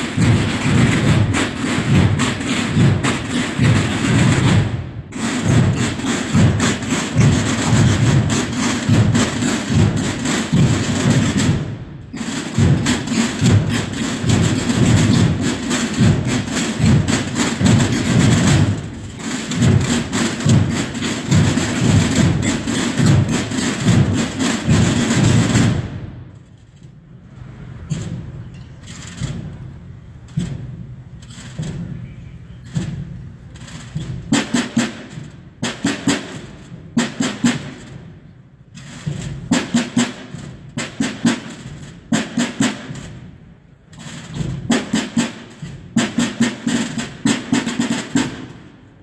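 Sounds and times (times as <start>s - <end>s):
drum band marching beat: 0.0s - 26.3s, 27.4s - 49.0s.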